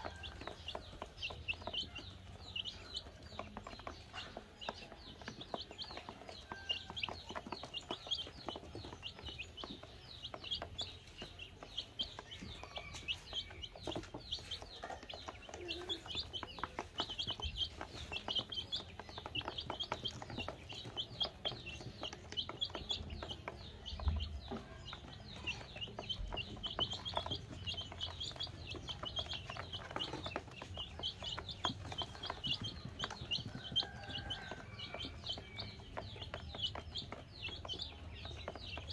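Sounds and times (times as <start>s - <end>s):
baby chicks peeping: 0.0s - 38.9s
beaks pecking on plastic: 0.0s - 38.9s.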